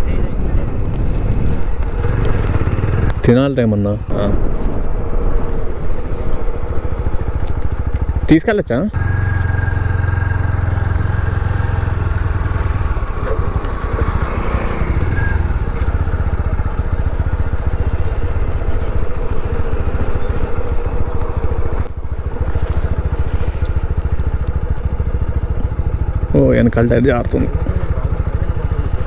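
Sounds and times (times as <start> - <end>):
motorcycle engine running: 0.7 - 29.0.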